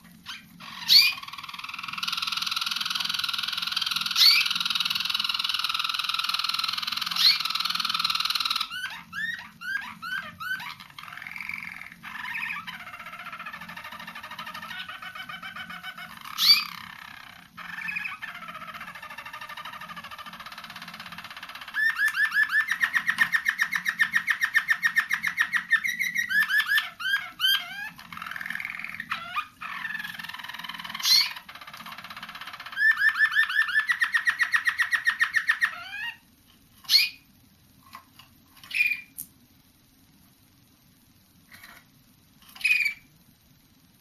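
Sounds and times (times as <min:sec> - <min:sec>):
canaries singing: 0:00.0 - 0:39.4, 0:41.4 - 0:43.2.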